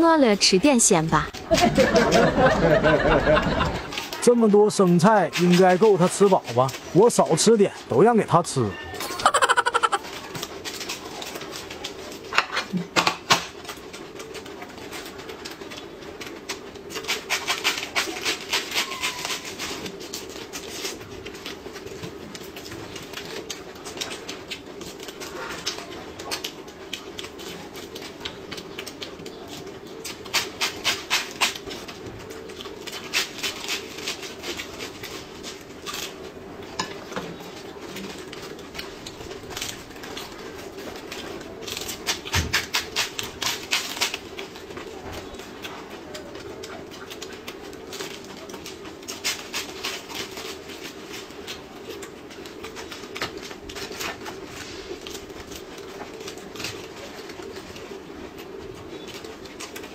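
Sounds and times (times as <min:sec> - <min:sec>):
lettuce being chewed: 0:08.6 - 0:59.9.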